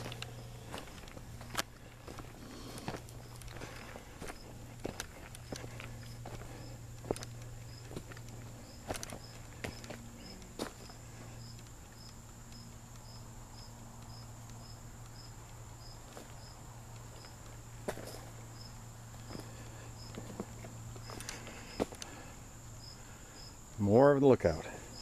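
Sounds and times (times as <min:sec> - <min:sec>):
crickets chirping: 0:00.0 - 0:25.0
high insect buzz: 0:00.0 - 0:25.0.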